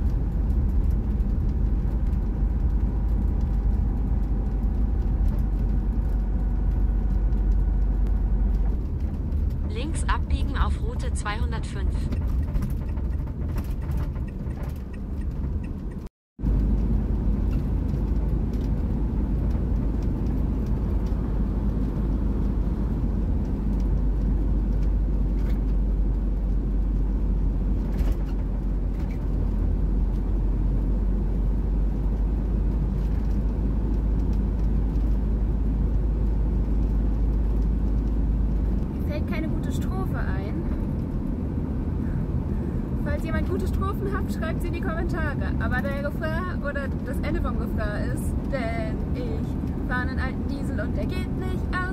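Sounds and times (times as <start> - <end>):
diesel van engine and road rumble: 0.0 - 51.9.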